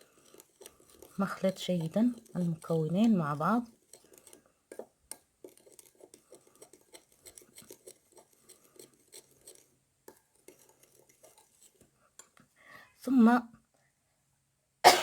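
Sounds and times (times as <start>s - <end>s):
spoon scraping against bowl: 0.0s - 12.3s.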